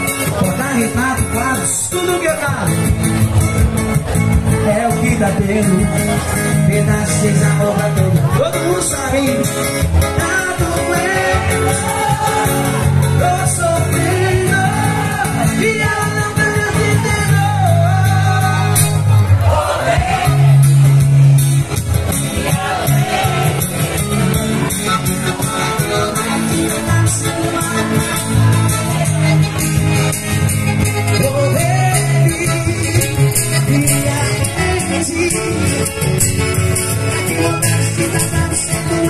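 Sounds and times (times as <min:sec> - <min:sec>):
bass line: 0:00.0 - 0:39.0
crowd singing along: 0:00.0 - 0:39.0
live band music with singing: 0:00.0 - 0:39.0.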